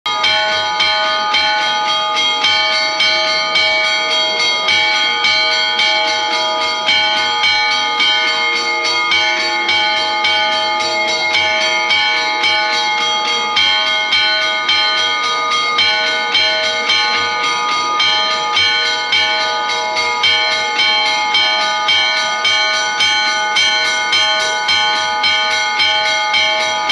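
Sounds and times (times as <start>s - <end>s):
church bells pealing: 0.1s - 26.9s.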